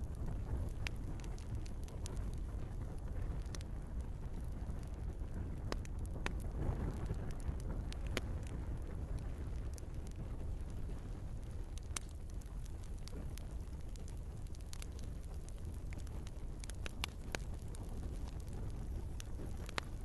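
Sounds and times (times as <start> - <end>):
fire crackling and popping: 0.0 - 20.0
flames rushing: 0.0 - 20.0.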